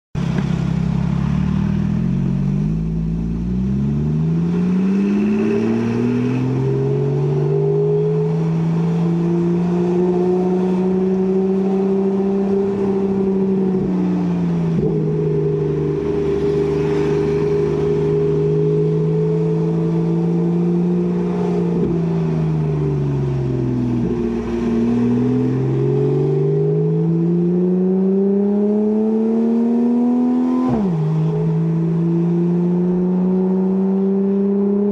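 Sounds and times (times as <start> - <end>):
car engine accelerating: 0.2 - 34.9.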